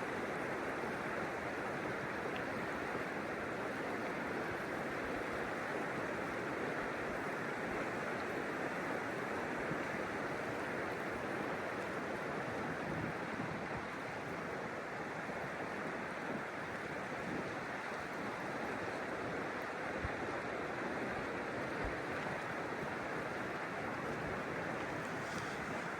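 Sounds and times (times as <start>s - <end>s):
river water rushing: 0.0s - 25.9s.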